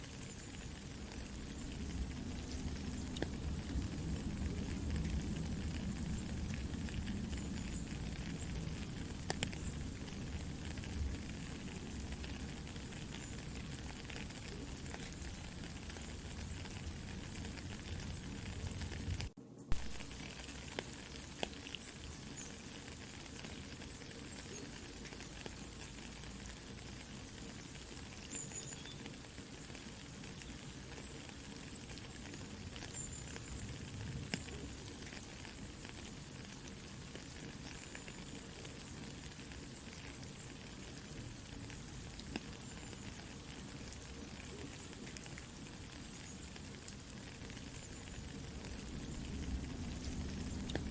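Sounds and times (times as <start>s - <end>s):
campfire crackling and popping: 0.0s - 50.9s
soft rain: 0.0s - 50.9s.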